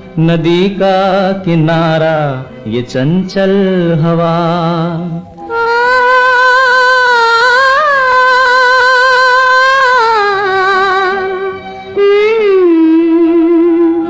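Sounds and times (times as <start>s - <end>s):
wordless singing with vibrato: 0.0s - 14.0s.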